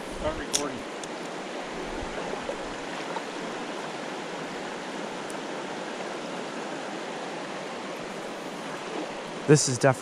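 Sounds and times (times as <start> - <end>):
river water rushing through rapids: 0.8 - 10.0.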